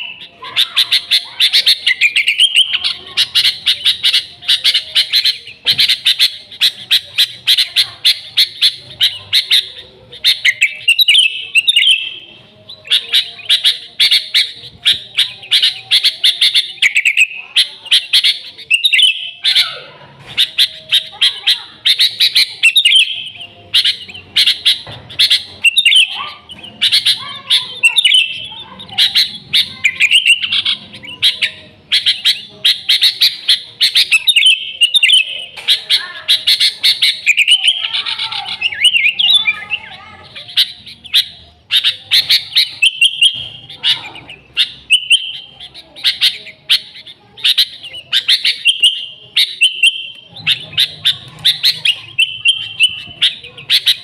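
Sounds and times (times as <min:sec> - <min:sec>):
bulbul chirping song: 0:00.0 - 0:54.0.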